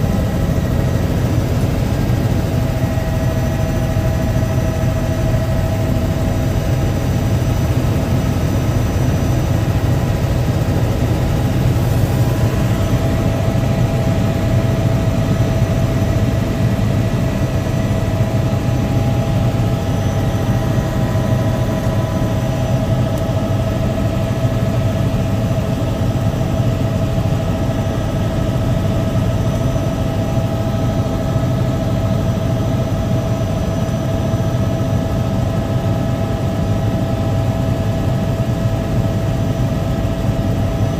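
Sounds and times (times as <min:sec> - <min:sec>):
constant whine: 0:00.0 - 0:40.9
helicopter engine and rotor drone: 0:00.0 - 0:40.9.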